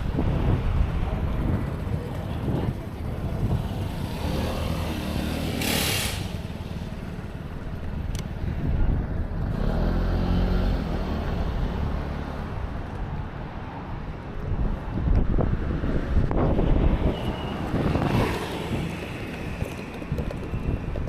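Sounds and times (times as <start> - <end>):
vehicle engines in traffic: 0.0 - 21.0.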